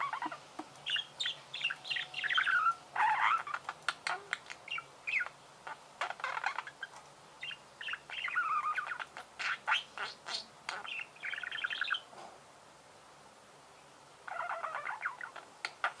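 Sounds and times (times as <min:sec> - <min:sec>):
budgerigars warbling: 0:00.0 - 0:12.0, 0:14.3 - 0:16.0.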